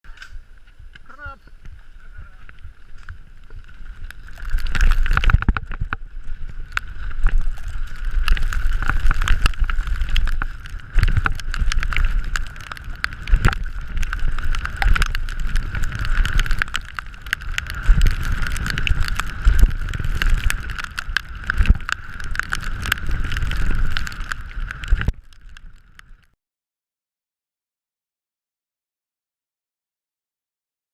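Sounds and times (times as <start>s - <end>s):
mountain bike tyres rumbling: 0.0s - 26.4s.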